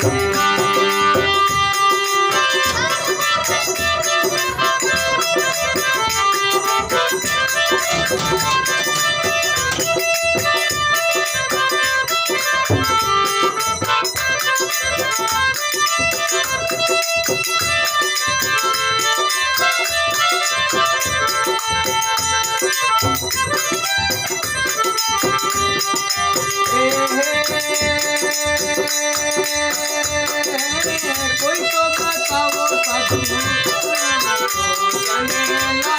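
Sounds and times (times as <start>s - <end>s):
folk melody line: 0.0s - 35.9s
steady percussion rhythm: 0.0s - 35.9s.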